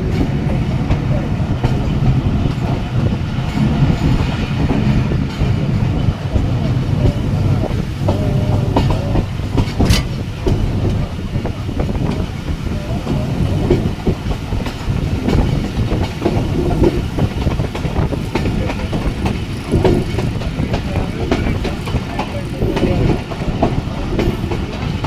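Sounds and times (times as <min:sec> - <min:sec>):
train rumbling along track: 0:00.0 - 0:25.0
train wheels clickety-clack: 0:00.0 - 0:25.0.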